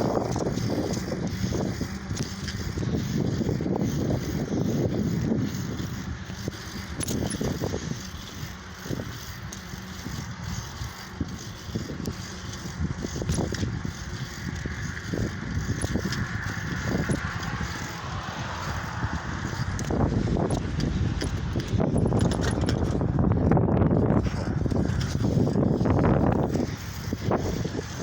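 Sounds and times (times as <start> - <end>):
bicycle rattles and clicks: 0.0 - 28.0
wind and tyre noise: 0.0 - 28.0.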